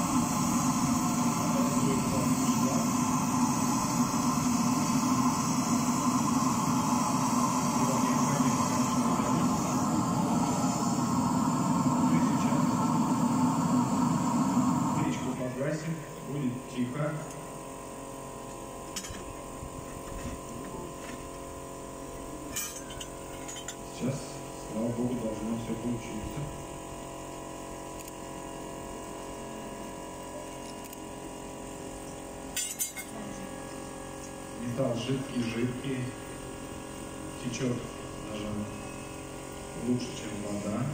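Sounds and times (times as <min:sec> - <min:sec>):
furnace burner rushing rumble: 0:00.0 - 0:40.9
steady machine hum: 0:00.0 - 0:40.9.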